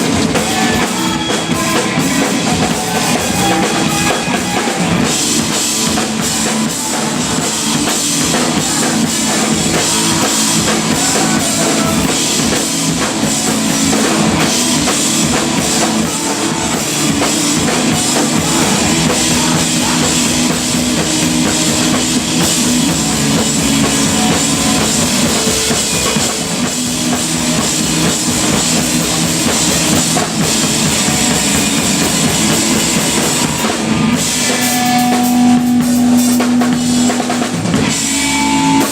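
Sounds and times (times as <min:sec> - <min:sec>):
drum kit: 0:00.0 - 0:38.9
live rock band playing: 0:00.0 - 0:38.9.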